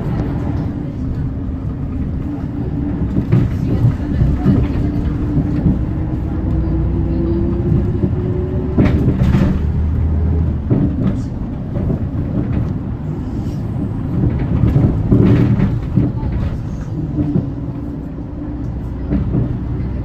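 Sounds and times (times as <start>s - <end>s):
bus drivetrain whine: 0.0s - 20.0s
deep engine rumble: 0.0s - 20.0s.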